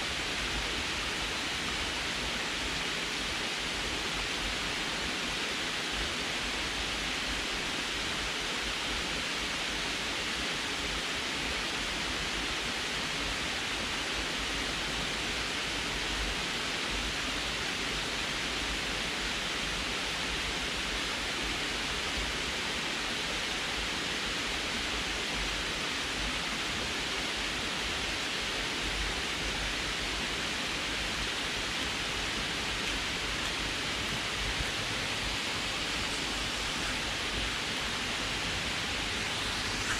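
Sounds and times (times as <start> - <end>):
water rushing over spillway: 0.0 - 39.9.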